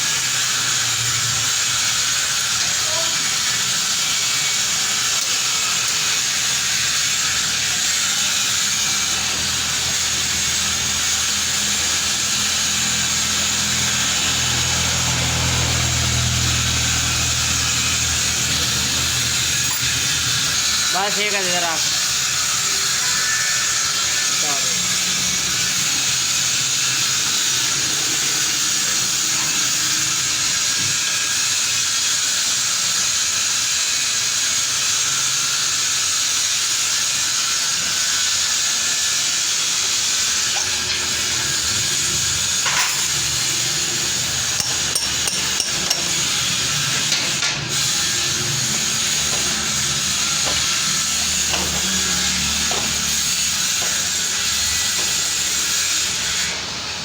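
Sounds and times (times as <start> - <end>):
loud hissing noise: 0.0 - 31.4, 37.4 - 57.0.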